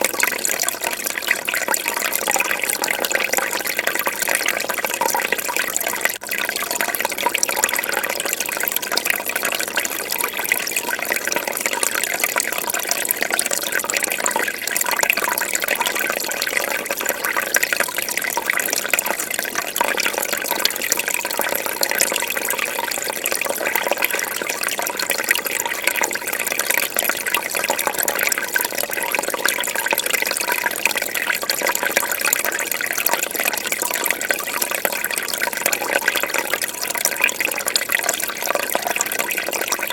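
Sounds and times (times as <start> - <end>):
fish tank water bubbling: 0.0 - 39.9.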